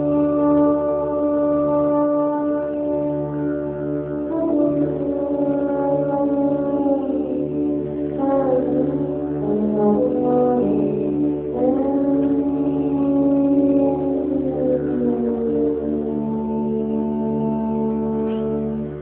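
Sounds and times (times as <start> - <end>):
didgeridoo drone: 0.0 - 19.0
trombone sliding between pitches: 0.0 - 19.0
trombones holding chords: 0.0 - 19.0.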